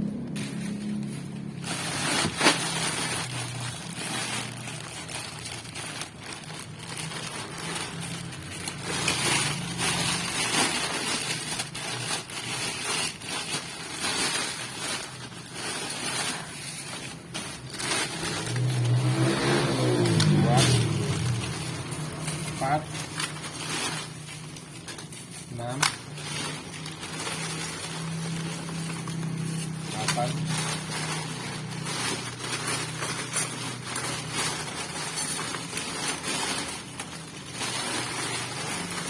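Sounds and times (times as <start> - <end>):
packaging rustling and crinkling: 0.0 - 39.0.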